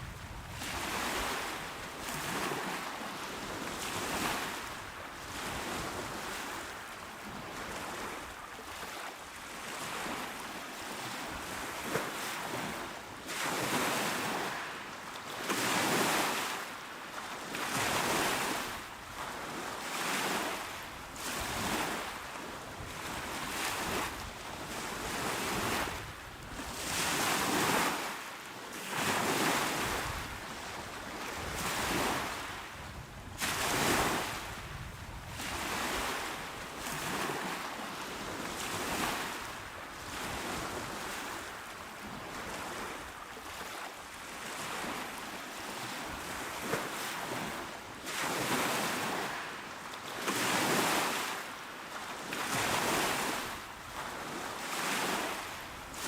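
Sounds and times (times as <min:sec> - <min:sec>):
small waves breaking on shore: 0:00.0 - 0:56.0
wind: 0:00.0 - 0:56.0.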